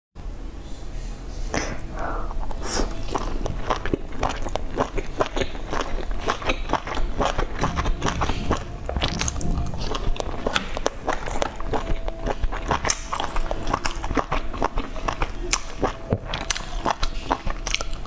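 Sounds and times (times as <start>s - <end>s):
person biting and chewing: 1.5s - 18.0s.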